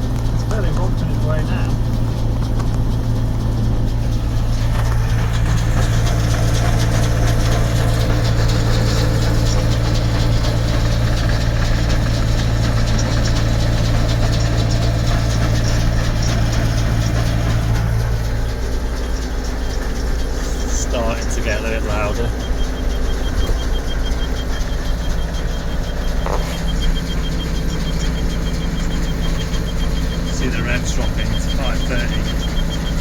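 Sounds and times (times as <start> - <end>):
round baler running: 0.0 - 33.0
tractor engine under load: 0.0 - 33.0.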